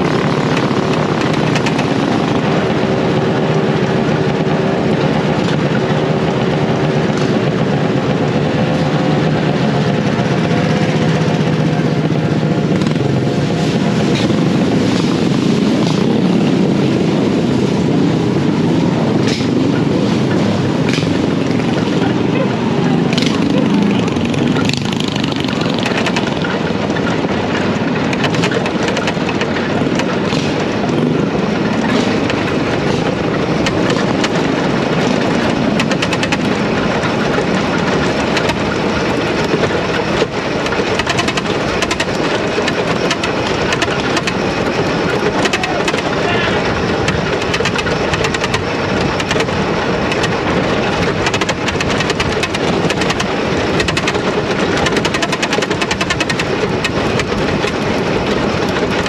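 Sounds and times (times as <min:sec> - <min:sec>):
lawnmower engine running: 0:00.0 - 0:59.0
rumble from gravel track: 0:00.0 - 0:59.0.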